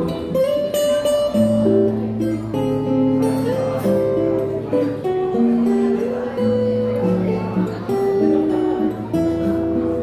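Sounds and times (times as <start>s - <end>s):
fingerstyle acoustic guitar: 0.0s - 10.0s.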